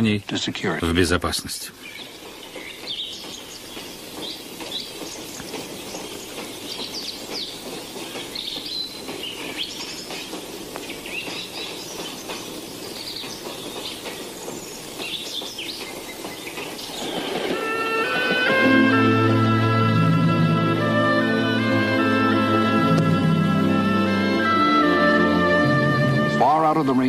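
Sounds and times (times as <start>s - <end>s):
birds chirping: 0.0s - 27.0s
moving train running: 1.4s - 27.0s.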